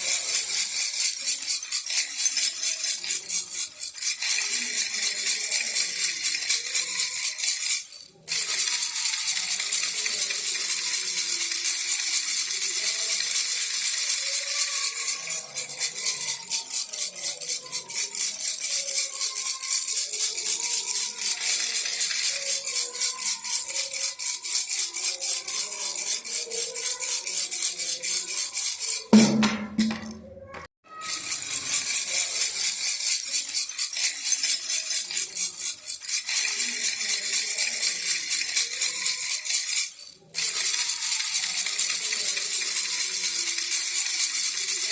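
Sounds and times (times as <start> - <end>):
baby rattle shaken: 0.0 - 30.2, 30.9 - 44.9.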